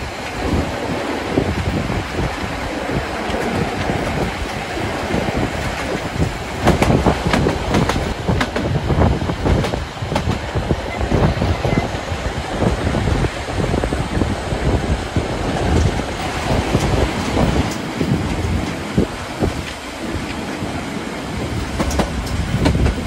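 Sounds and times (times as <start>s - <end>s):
wheels clicking and knocking: 0.0s - 20.7s, 21.4s - 23.0s
train running on track: 0.0s - 23.0s.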